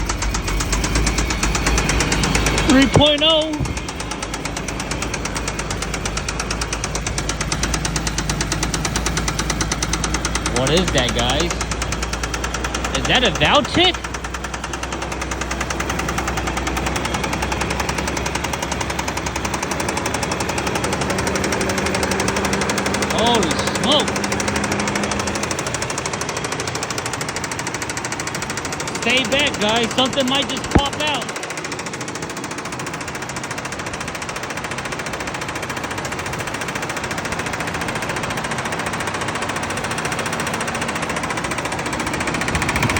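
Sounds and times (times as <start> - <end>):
car engine running: 0.0 - 42.9
rapid engine knock: 0.0 - 42.9.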